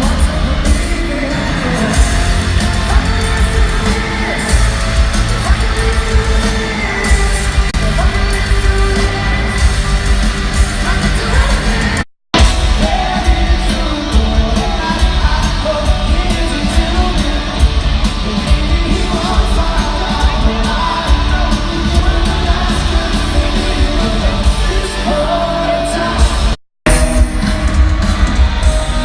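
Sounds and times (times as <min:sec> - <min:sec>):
drums: 0:00.0 - 0:29.0.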